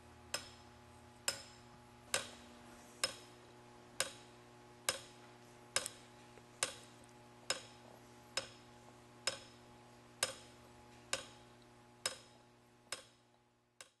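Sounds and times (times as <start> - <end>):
motor hum: 0.0 - 13.9.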